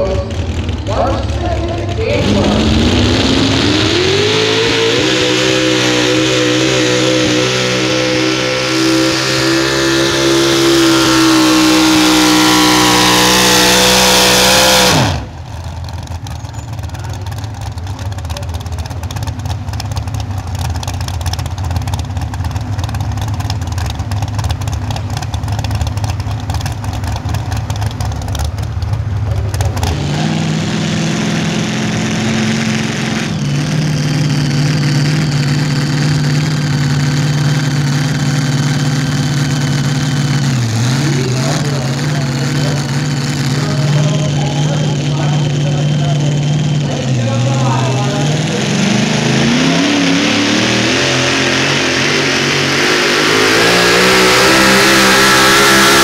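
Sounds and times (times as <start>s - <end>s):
truck engine idling: 0.0s - 53.6s
supercharged truck engine revving: 0.0s - 56.0s.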